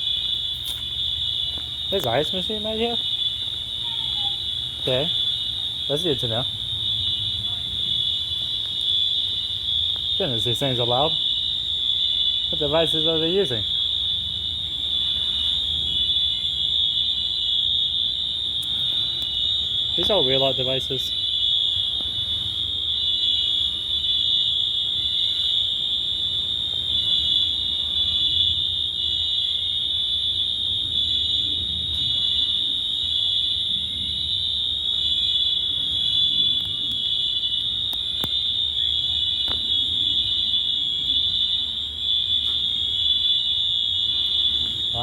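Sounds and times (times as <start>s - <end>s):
fire alarm continuous tone: 0.0s - 45.0s.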